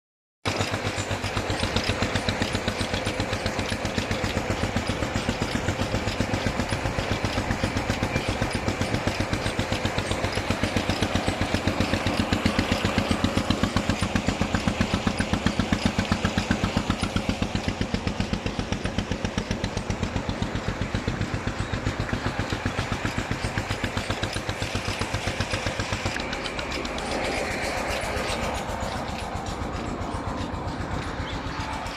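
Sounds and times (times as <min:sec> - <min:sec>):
engine running with thumping beat: 0:00.4 - 0:31.9.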